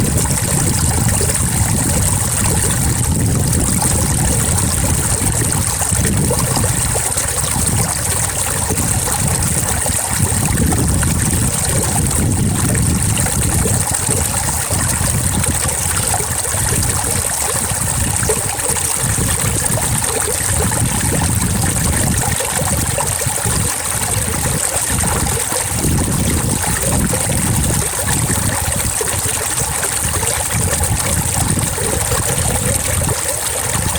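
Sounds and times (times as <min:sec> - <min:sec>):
stream water trickling: 0:00.0 - 0:33.9.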